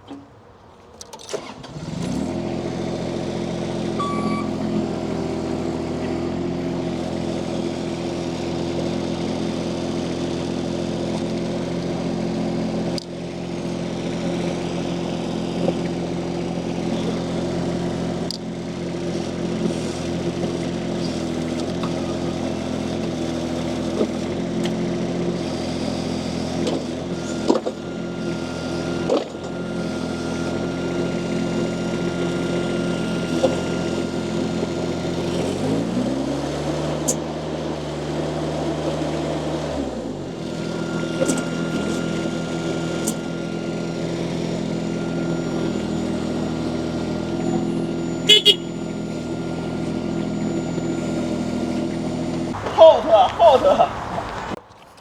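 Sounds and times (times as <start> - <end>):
loader engine running: 1.3 - 55.0.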